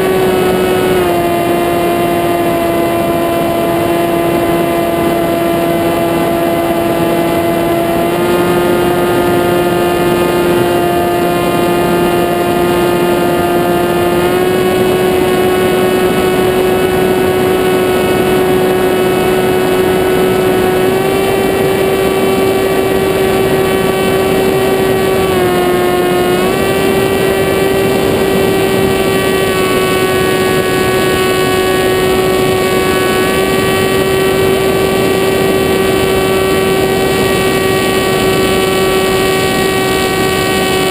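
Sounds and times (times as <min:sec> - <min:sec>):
model aircraft motor whine: 0:00.0 - 0:40.9
wind rush: 0:00.0 - 0:40.9.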